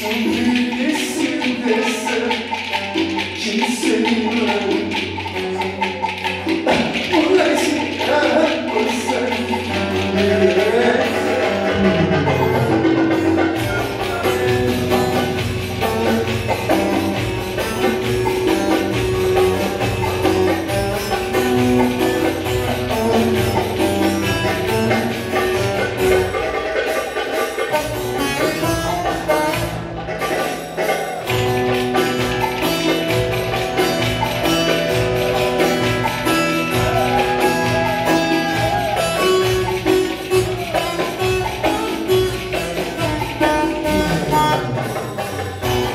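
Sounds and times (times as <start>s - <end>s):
folk dance melody: 0.0s - 45.9s
percussion beat with jingles: 0.0s - 45.9s.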